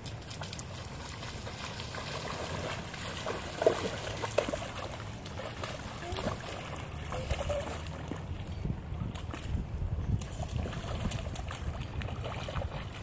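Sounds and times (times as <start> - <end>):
children splashing in a puddle: 0.0 - 13.0.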